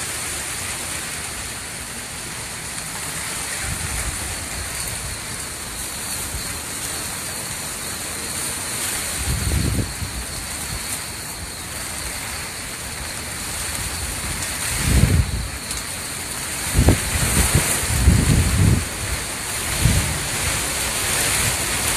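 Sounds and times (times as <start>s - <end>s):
low rumbling wind gusts: 0.0s - 21.9s
wind-driven rain hissing: 0.0s - 21.9s.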